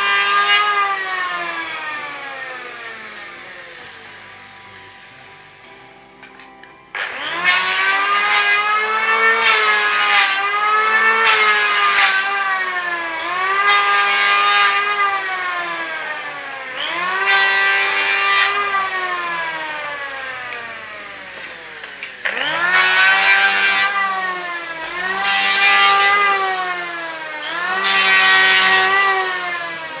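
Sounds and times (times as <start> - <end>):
planer cutting wood: 0.0 - 5.6, 6.9 - 30.0
electric planer motor whine: 0.0 - 30.0.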